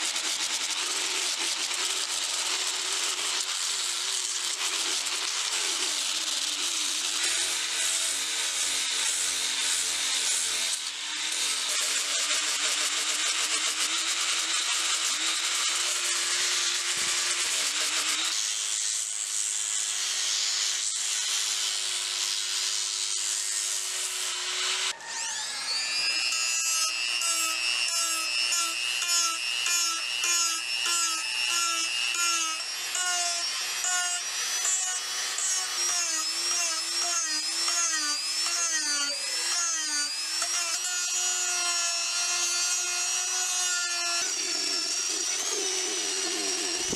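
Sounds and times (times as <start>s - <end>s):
power tool running on wood: 0.0s - 46.9s.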